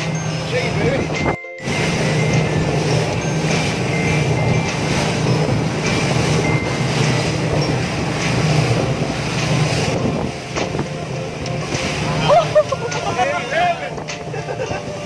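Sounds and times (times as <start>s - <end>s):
motorboat engine drone: 0.0s - 15.0s
water splashing along hull: 0.0s - 15.0s.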